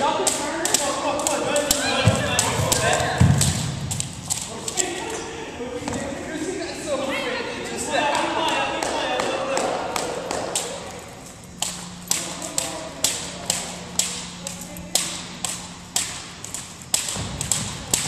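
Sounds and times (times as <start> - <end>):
jump ropes slapping wooden floor: 0.0 - 5.2, 8.1 - 18.0.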